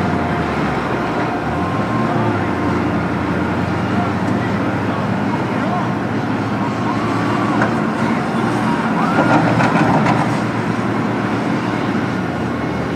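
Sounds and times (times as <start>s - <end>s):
excavator diesel engine: 0.0s - 12.9s.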